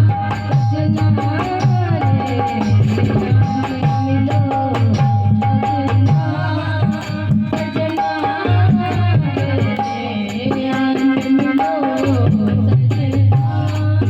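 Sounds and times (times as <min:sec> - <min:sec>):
hand drum folk rhythm: 0:00.0 - 0:14.0.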